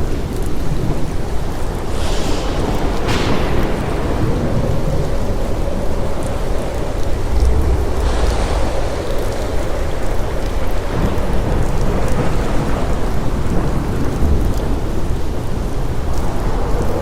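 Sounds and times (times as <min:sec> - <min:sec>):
deep continuous rumble: 0:00.0 - 0:17.0
steady rain: 0:00.0 - 0:17.0.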